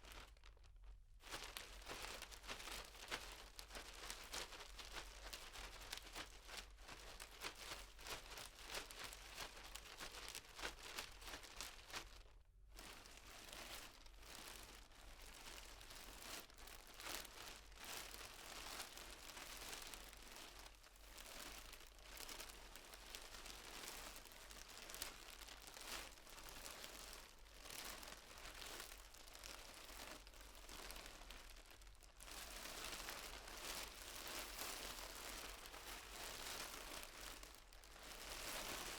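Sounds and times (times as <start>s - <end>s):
plastic bag crinkling: 0.0s - 12.2s, 14.2s - 38.9s.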